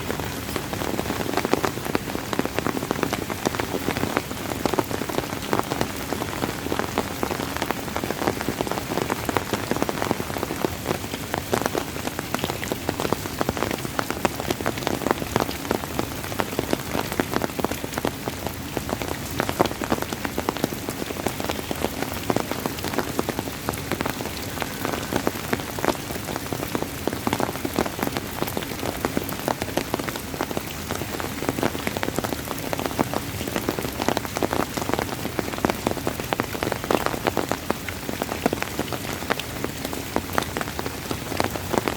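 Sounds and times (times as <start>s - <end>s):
steady rain pattering: 0.0s - 41.9s.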